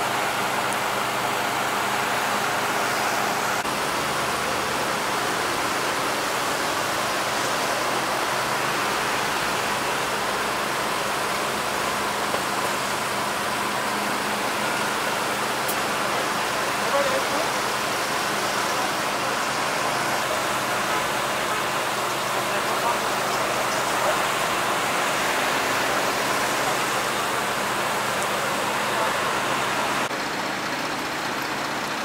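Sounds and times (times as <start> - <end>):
engine drone: 0.0 - 32.0
motorway traffic noise: 0.0 - 32.0.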